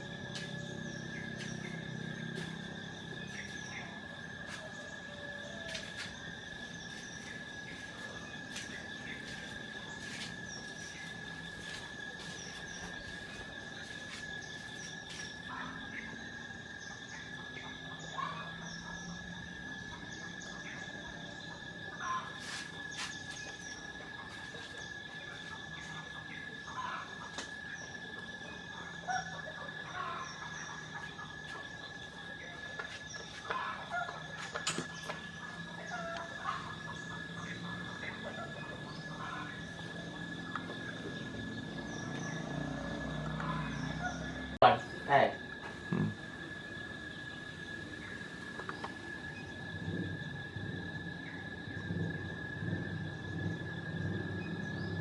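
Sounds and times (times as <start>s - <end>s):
high insect chirps: 0.0s - 55.0s
insects trilling: 0.0s - 55.0s.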